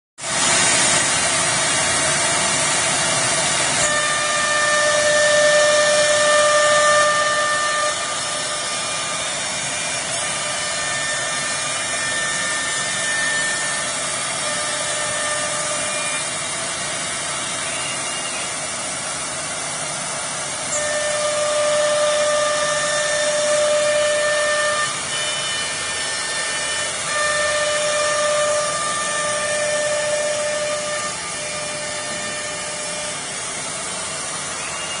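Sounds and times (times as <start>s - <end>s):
machine whine: 0.2s - 35.0s
router machine running: 0.2s - 35.0s.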